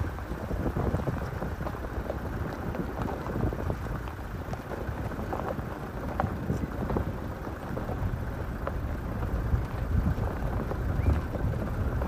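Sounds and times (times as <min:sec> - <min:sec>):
vehicle rumbling on rough track: 0:00.0 - 0:12.0.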